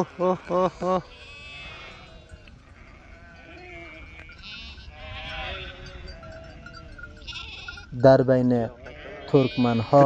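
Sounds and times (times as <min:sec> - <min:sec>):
sheep bleating: 0:00.0 - 0:10.0.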